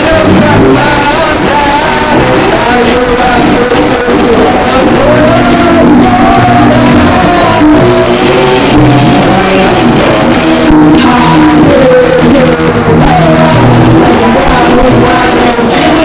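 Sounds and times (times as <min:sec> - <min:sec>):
loud music: 0:00.0 - 0:16.0
person singing and shouting: 0:00.0 - 0:16.0.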